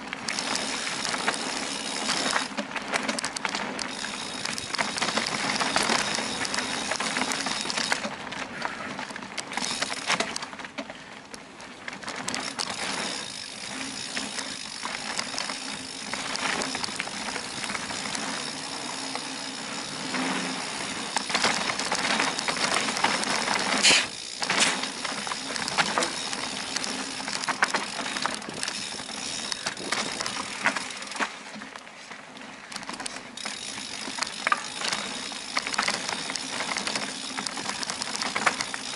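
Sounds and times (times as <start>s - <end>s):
bike chain and frame rattling: 0.0s - 38.9s
bike tyres rolling over dirt: 0.0s - 38.9s
freewheel hub ticking: 0.1s - 8.7s, 12.1s - 31.2s, 32.7s - 38.9s.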